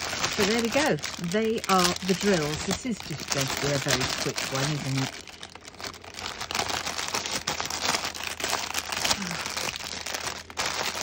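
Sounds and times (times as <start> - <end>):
plastic sleeve crinkling: 0.0 - 11.0.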